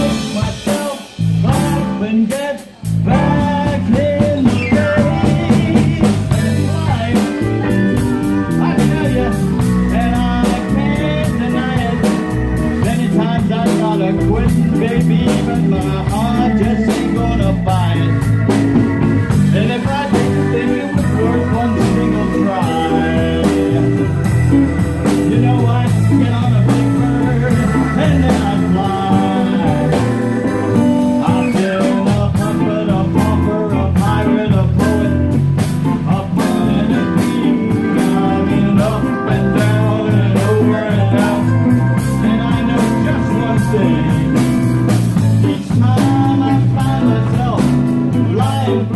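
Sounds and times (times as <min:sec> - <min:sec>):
drums: 0:00.0 - 0:48.9
electric bass: 0:00.0 - 0:48.9
electric guitar: 0:00.0 - 0:48.9
keyboard: 0:00.0 - 0:48.9
man singing: 0:00.0 - 0:48.9.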